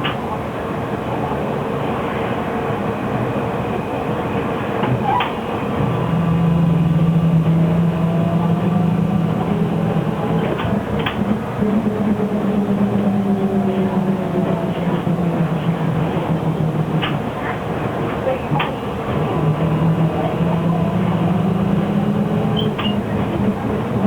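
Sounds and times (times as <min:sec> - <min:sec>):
bus running noise from inside: 0:00.0 - 0:24.0.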